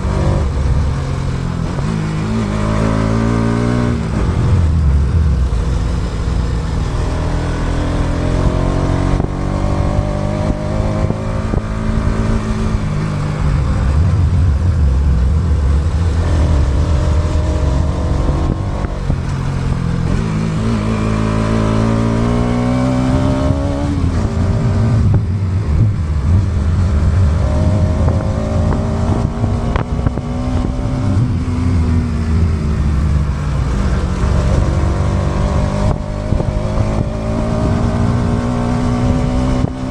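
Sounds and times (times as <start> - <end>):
motorcycle engine accelerating: 0.0 - 39.9
wind rumble on microphone: 0.0 - 39.9.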